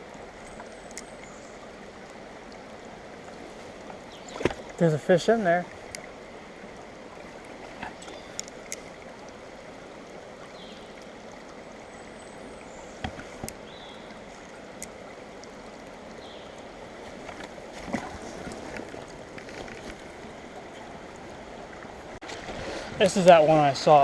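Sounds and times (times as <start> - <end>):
mountain stream flowing: 0.0 - 24.0.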